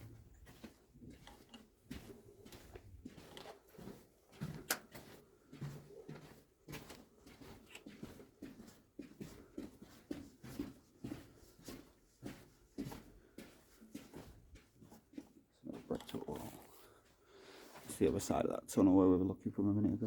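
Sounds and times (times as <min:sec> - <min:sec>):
footsteps and scuffs in tunnel: 0:00.0 - 0:19.1.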